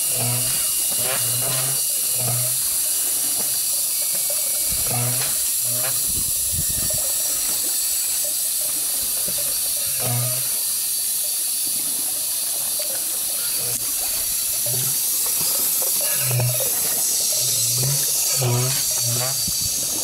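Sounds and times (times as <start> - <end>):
water hissing and churning in tank: 0.0 - 20.0.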